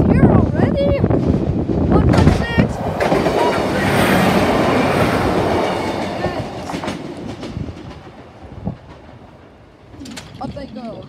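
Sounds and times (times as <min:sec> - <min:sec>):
train wheels rumbling and clattering: 0:00.0 - 0:11.0.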